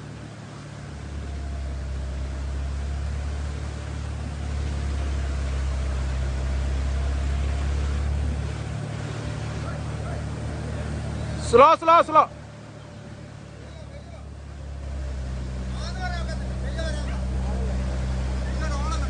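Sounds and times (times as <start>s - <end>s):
diesel engine humming: 0.0s - 19.0s
water rushing: 0.0s - 19.0s.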